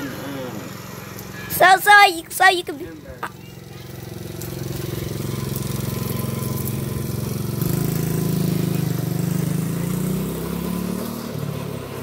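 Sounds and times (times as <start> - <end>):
small gasoline engine running: 0.0 - 12.0.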